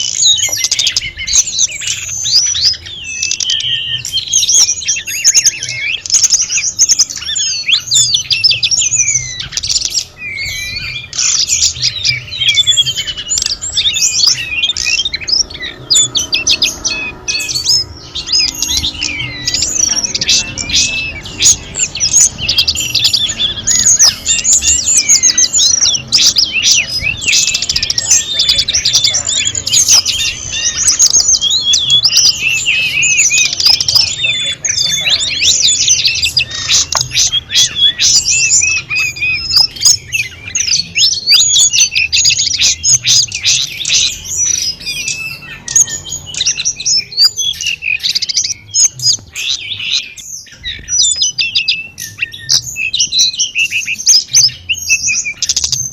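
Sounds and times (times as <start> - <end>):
bird singing chirps and trills: 0.0 - 55.9.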